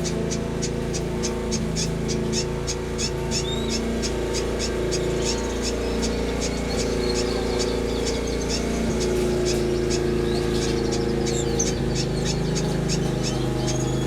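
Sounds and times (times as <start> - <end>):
finches chirping: 0.0 - 14.0
steady low drone: 0.0 - 14.0.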